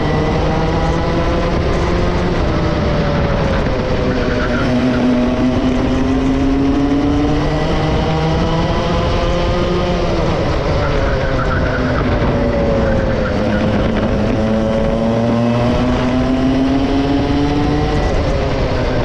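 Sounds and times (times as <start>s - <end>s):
two-stroke kart engine racing: 0.0s - 19.0s.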